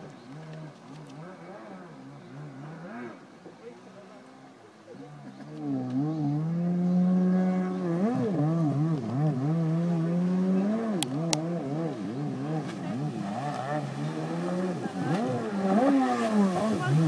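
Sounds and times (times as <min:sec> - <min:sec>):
jet ski engine revving: 0:00.0 - 0:17.0.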